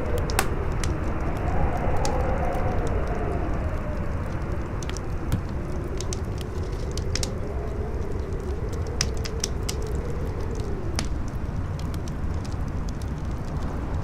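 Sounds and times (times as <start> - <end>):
campfire crackling: 0.0 - 14.0
strong wind howling: 0.0 - 14.0.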